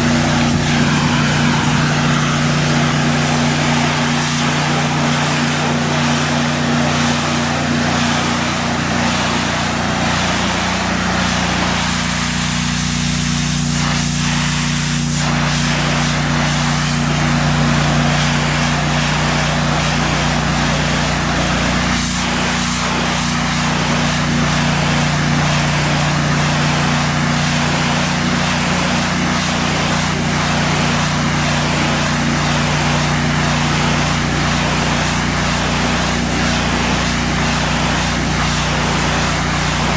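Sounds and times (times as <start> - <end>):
high-pressure water spray hiss: 0.0 - 39.9
pressure washer engine drone: 0.0 - 39.9.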